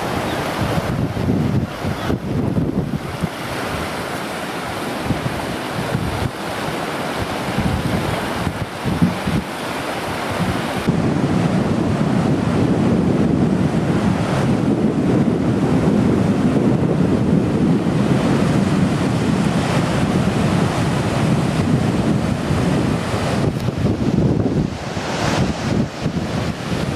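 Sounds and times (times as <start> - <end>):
waves breaking against seawall: 0.0 - 26.9
wind buffeting microphone: 0.0 - 26.9.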